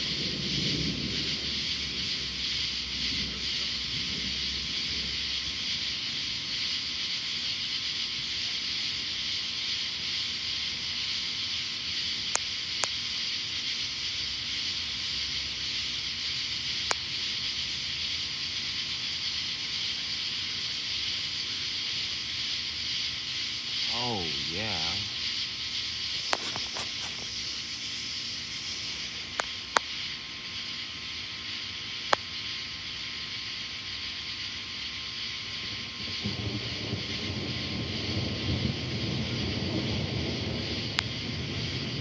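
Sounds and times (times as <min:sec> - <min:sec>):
outdoor air hiss: 0:00.0 - 0:42.0.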